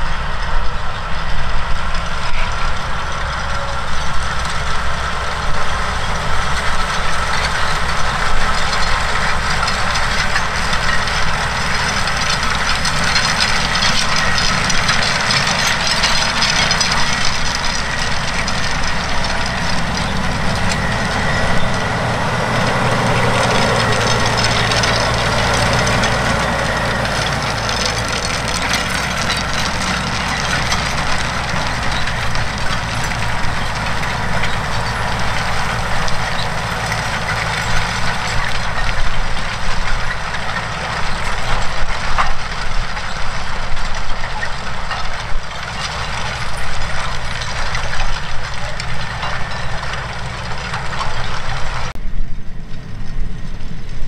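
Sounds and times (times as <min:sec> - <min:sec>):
harrow chains and discs rattling: 0:00.0 - 0:54.0
tractor diesel engine running: 0:00.0 - 0:54.0.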